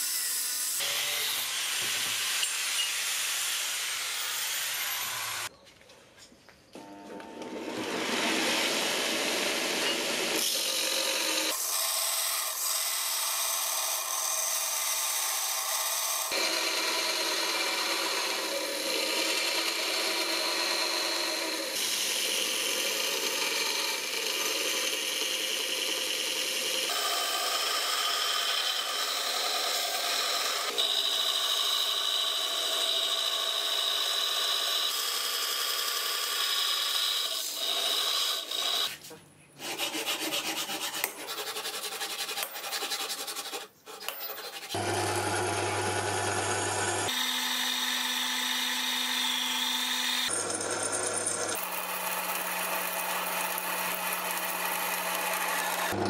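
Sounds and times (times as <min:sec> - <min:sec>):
belt grinder grinding steel: 0:07.6 - 0:39.0, 0:39.6 - 0:56.0.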